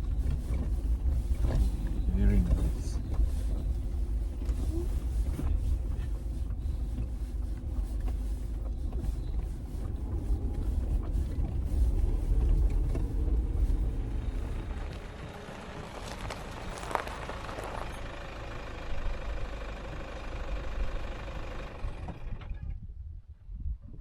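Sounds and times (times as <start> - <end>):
tyres on dirt track: 0.0 - 24.0
vehicle engine rumble: 0.0 - 24.0.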